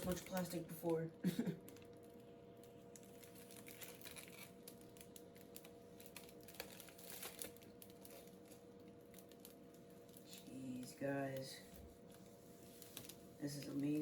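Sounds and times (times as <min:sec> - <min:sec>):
plastic film crackling: 0:00.0 - 0:14.0.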